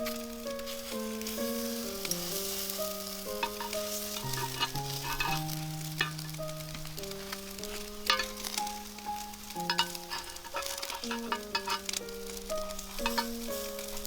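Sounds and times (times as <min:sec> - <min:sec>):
background music of held notes: 0:00.0 - 0:14.0
food sizzling in a pan: 0:00.0 - 0:14.0.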